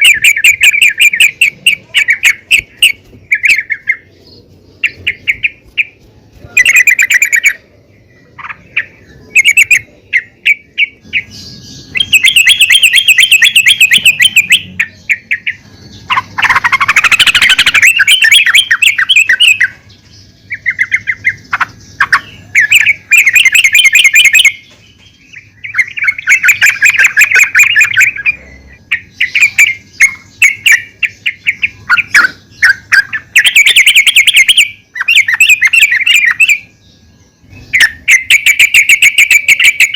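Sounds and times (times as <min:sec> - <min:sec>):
bulbul chattering calls: 0:00.0 - 0:39.9.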